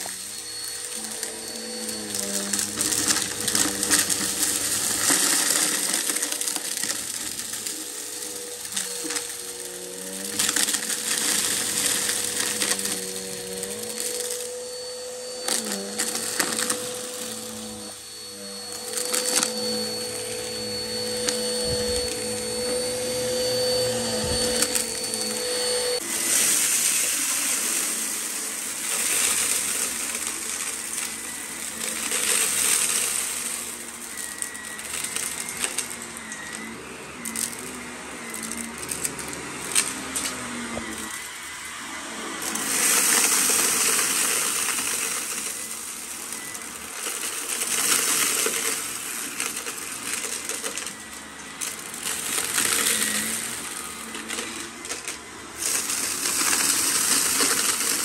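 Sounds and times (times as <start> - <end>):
debris rattling in vacuum: 0.0 - 58.0
upright vacuum motor whine: 0.0 - 58.0
vacuum with bright hiss: 0.0 - 58.0.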